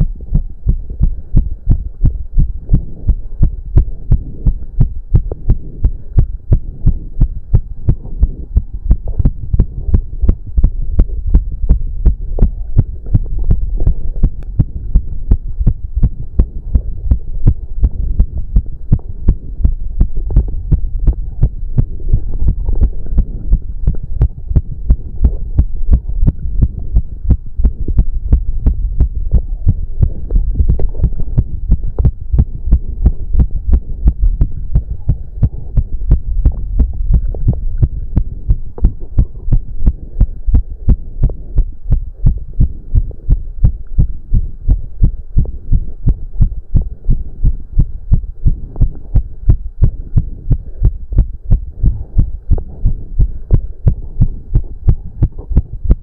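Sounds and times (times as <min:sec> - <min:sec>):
fast heartbeat thumps: 0:00.0 - 0:56.0
steady low hum: 0:00.0 - 0:56.0.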